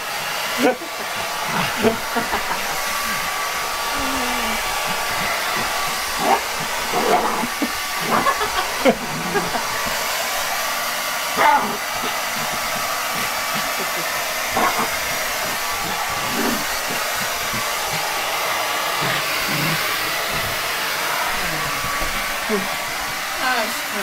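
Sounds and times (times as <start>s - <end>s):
hair dryer blowing: 0.0s - 24.0s.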